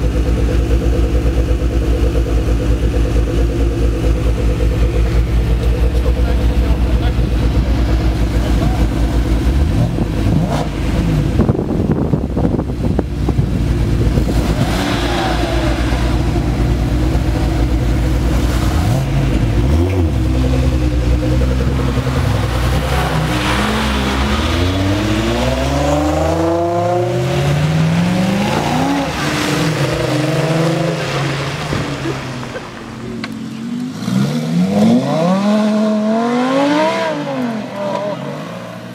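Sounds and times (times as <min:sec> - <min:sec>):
sports car engines revving: 0:00.0 - 0:38.9.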